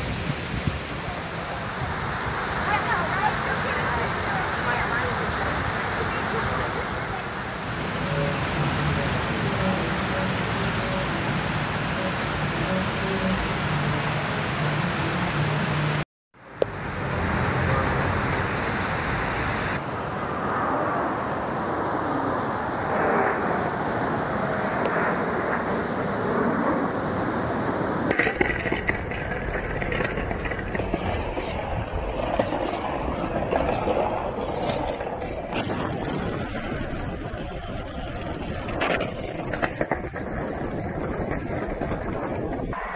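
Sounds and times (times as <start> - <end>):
city street traffic: 0.0 - 25.4, 28.1 - 42.9
distant jet engines rushing: 0.0 - 42.9.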